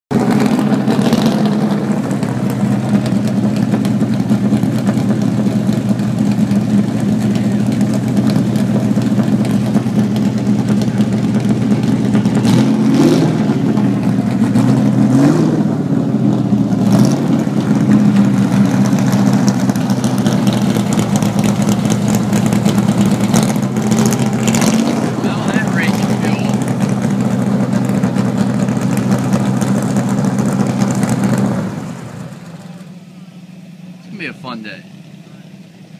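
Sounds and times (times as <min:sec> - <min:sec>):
race car engine idling: 0:00.1 - 0:35.9.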